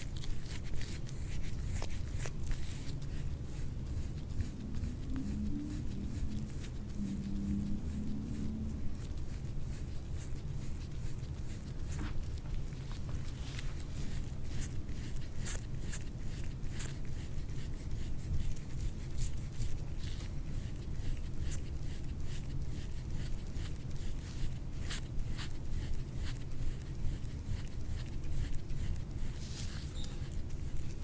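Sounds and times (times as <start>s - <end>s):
rubbing strokes on skin: 0.0s - 31.0s
steady low hum: 0.0s - 31.0s.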